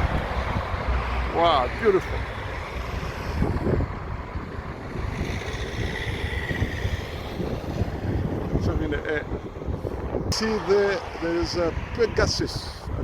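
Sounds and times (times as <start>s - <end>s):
jet engines roaring: 0.0s - 13.0s
wind buffeting microphone: 0.0s - 13.0s.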